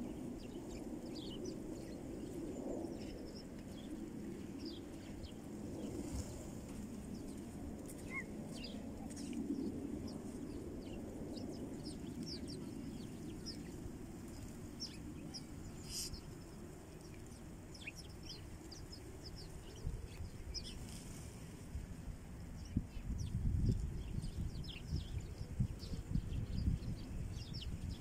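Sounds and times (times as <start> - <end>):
sparrows chirping: 0.0 - 21.3, 22.6 - 28.0.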